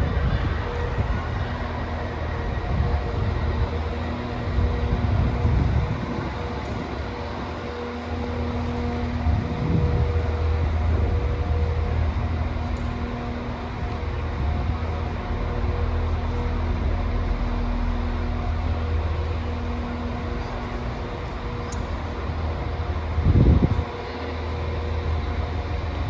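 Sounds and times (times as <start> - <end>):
train hum: 0.0 - 26.0
train rumbling: 0.0 - 26.0.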